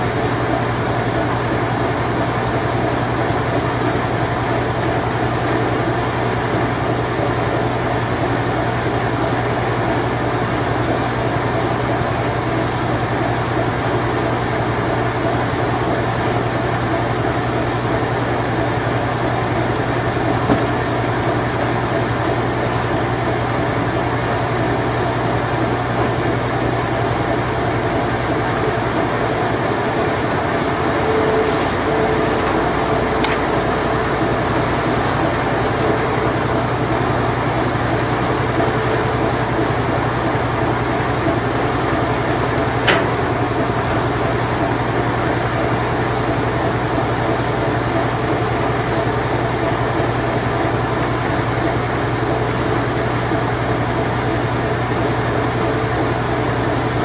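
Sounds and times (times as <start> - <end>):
washing machine spin cycle: 0.0 - 57.0.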